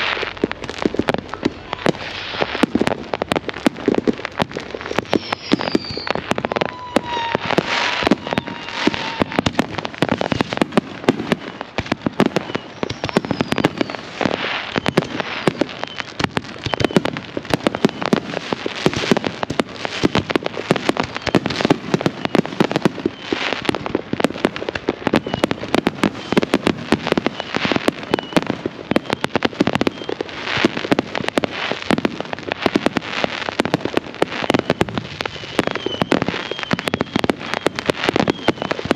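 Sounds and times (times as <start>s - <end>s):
fireworks bangs and crackles: 0.0s - 38.9s
fireworks whistles: 0.0s - 38.9s.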